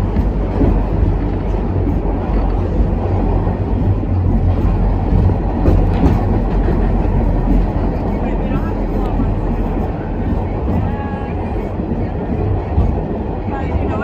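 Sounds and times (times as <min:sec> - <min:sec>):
subway train rumbling in tunnel: 0:00.0 - 0:14.0.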